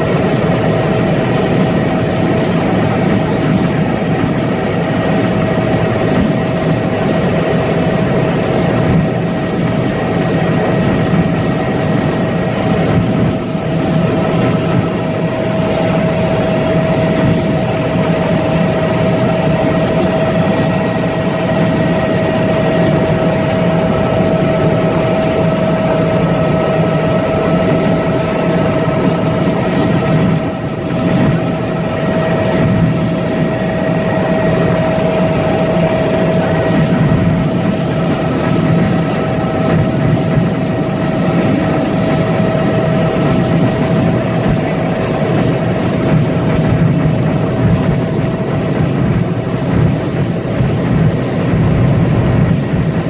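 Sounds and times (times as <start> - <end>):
constant whine: 0.0 - 53.0
helicopter engine and rotors droning: 0.0 - 53.0.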